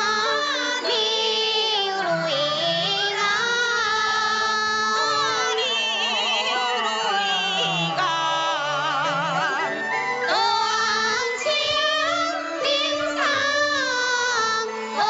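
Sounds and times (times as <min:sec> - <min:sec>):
opera accompaniment: 0:00.0 - 0:15.0
opera singing with vibrato: 0:00.0 - 0:15.0.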